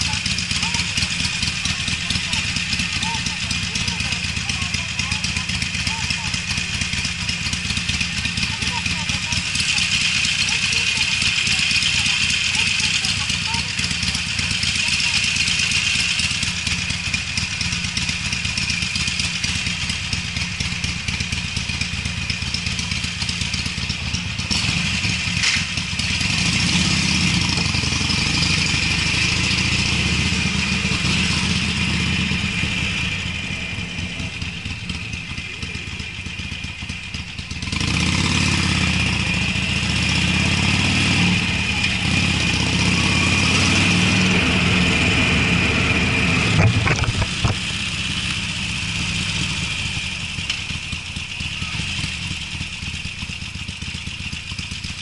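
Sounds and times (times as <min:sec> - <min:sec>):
motorcycle engine exhaust: 0:00.0 - 0:55.0.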